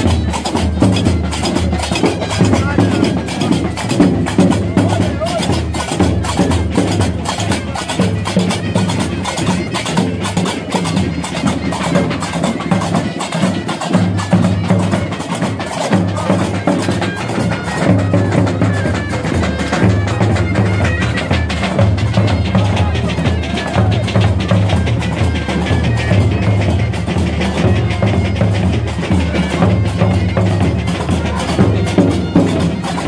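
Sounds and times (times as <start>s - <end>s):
hand percussion clatter: 0.0s - 33.0s
large drums beating: 0.0s - 33.0s.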